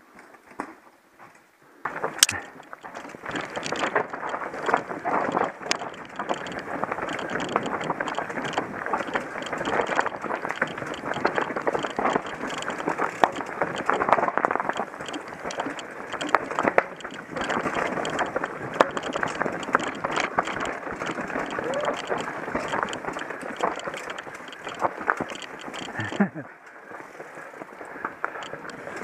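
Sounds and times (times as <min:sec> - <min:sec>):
bike tyres clattering over stones: 0:01.8 - 0:29.0
bike rattling with sharp knocks: 0:01.9 - 0:29.0.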